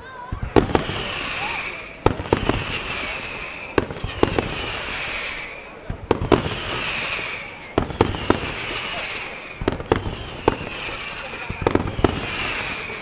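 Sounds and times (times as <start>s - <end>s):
fireworks bangs: 0.0s - 13.0s
fireworks hissing crackle: 0.0s - 13.0s.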